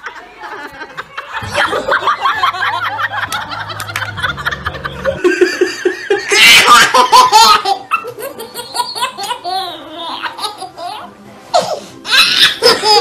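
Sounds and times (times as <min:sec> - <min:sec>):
baby laughing: 0:01.4 - 0:11.1, 0:12.1 - 0:13.0.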